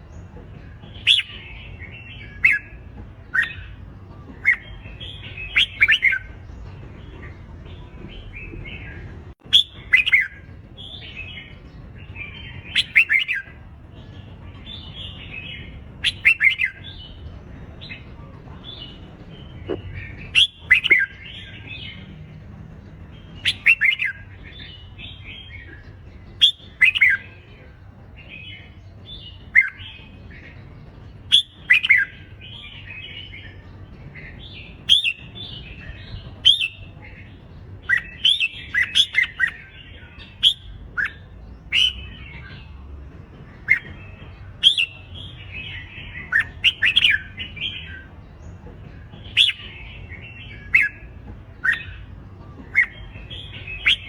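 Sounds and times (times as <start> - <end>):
birds warbling whistled song: 0.0 - 54.0.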